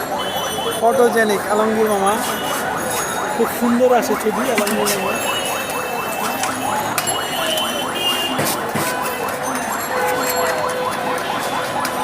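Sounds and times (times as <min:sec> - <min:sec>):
electronic alarm chirp: 0:00.0 - 0:11.9
busy street noise: 0:00.0 - 0:12.0.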